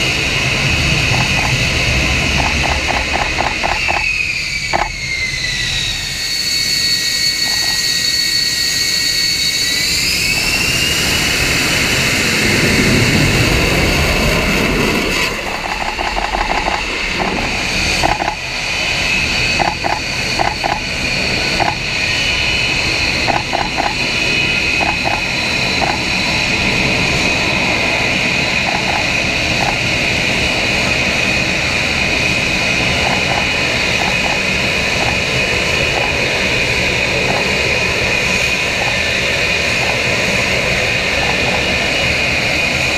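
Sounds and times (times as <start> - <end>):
jet engines whining: 0.0 - 42.9.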